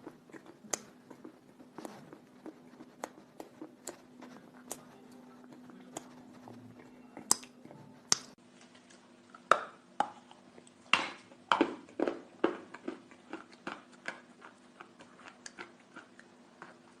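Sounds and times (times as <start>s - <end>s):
chewing chalk crunches: 0.0s - 8.4s, 10.1s - 17.0s.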